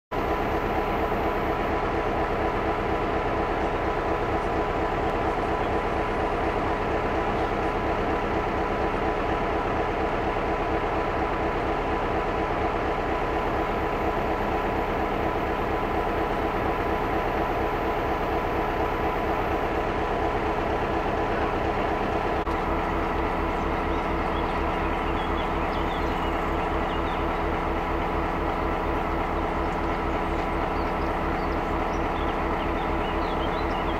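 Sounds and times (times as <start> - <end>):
locomotive engine throbbing: 0.1 - 33.9.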